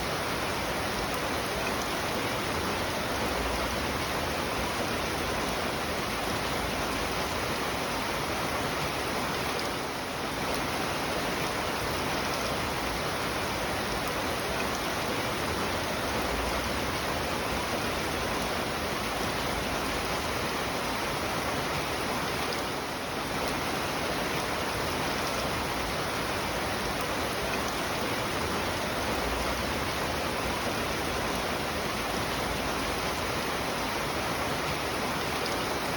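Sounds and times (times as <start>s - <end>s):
steady rain hiss: 0.0s - 35.9s.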